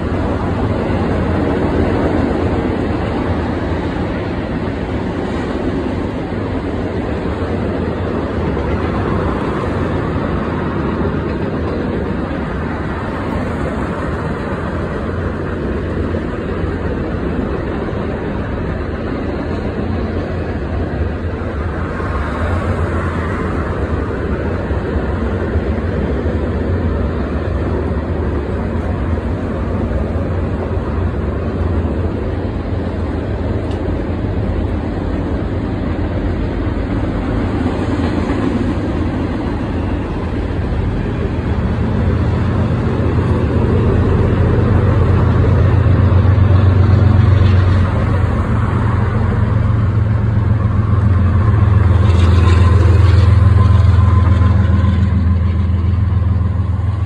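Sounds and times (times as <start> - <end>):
cars driving by: 0.0 - 57.0
freight train rumbling past: 0.0 - 57.0.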